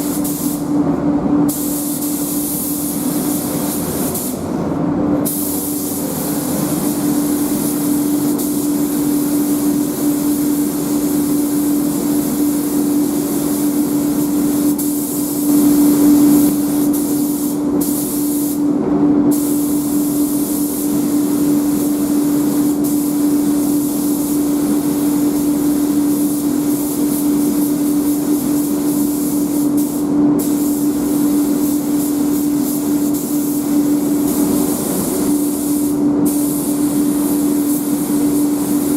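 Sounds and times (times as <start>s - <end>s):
paint spray gun hissing: 0.0s - 0.7s, 1.5s - 4.4s, 5.2s - 18.6s, 19.3s - 38.9s
steady hum: 0.0s - 38.9s.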